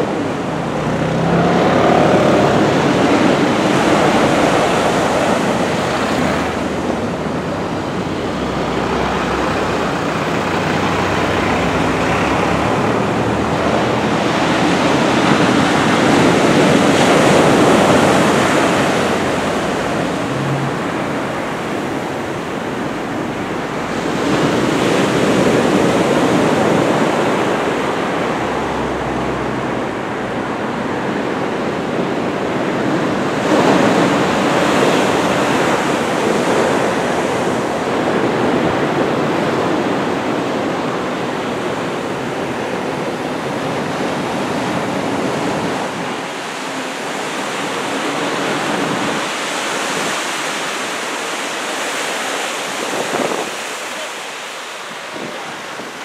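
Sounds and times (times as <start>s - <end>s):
heavy surf breaking waves: 0.0s - 56.0s.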